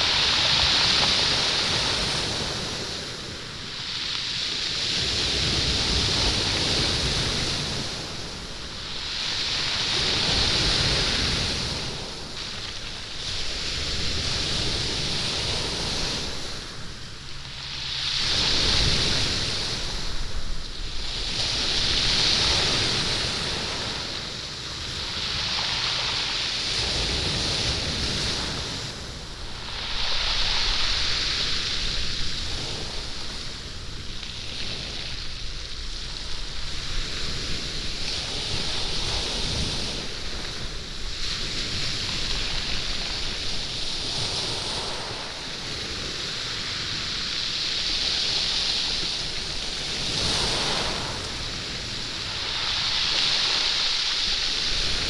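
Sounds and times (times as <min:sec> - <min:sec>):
waves over stony beach: 0:00.0 - 0:55.0.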